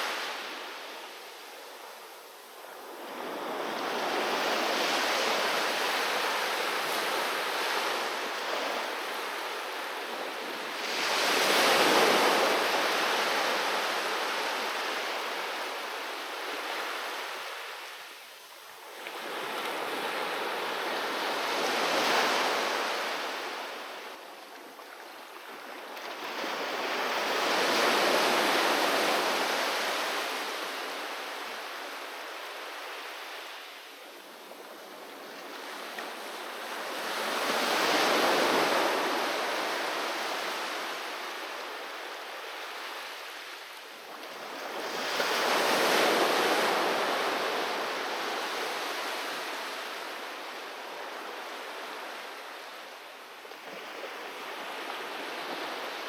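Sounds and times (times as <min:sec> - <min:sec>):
sea waves breaking on beach: 0:00.0 - 0:18.1, 0:18.8 - 0:53.0.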